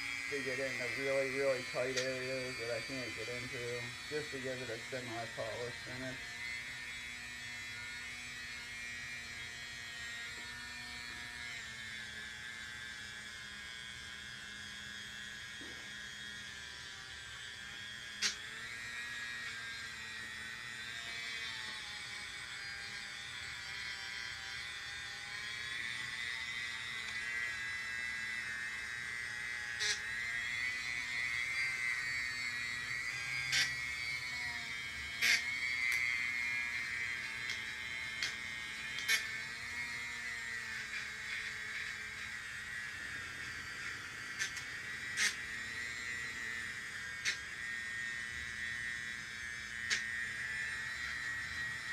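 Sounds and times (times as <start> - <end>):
rotary tool high whine: 0.0 - 51.9.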